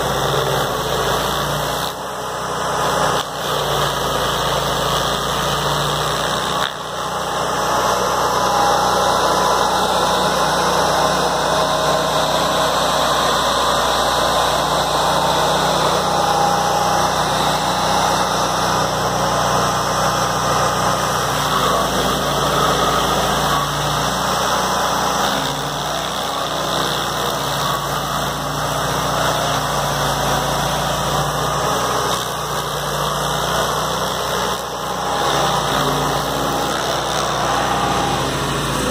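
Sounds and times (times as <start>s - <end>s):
cutter wheel grinding into root: 0.0s - 38.9s
stump grinder running: 0.0s - 38.9s.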